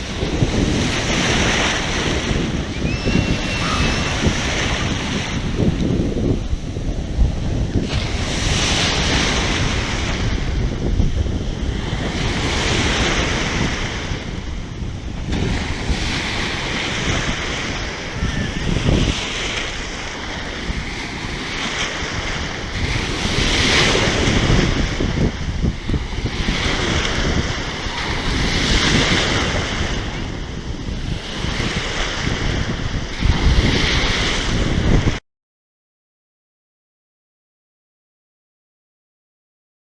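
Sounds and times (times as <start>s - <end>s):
sea waves washing: 0.0s - 35.2s
wind buffeting microphone: 0.0s - 35.2s.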